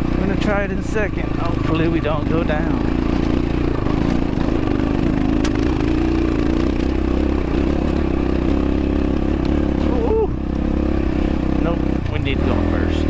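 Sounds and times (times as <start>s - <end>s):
dirt bike engine pulling uphill: 0.0s - 13.0s.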